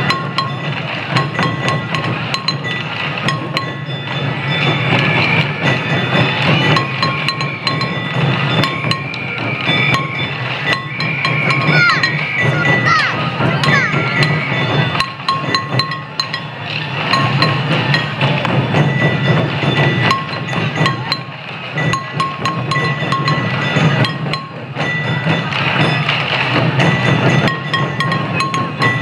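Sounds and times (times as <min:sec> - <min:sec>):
taiko drums beating: 0:00.0 - 0:29.0.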